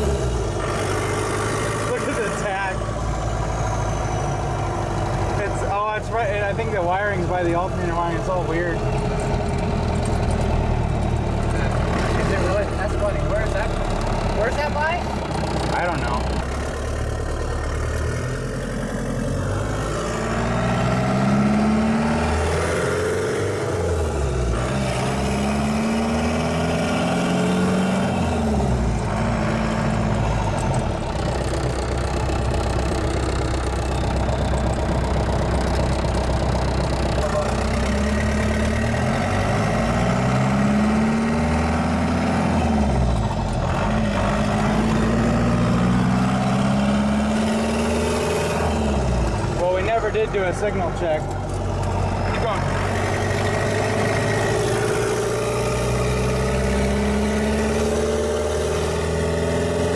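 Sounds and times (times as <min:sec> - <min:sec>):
diesel engine accelerating: 0:00.0 - 0:59.9.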